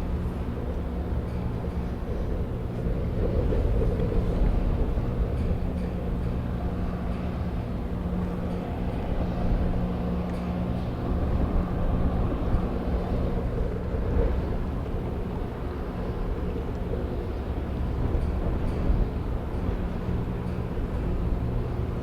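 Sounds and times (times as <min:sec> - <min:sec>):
constant rushing background: 0:00.0 - 0:22.0
ferry engines low drone: 0:00.0 - 0:22.0.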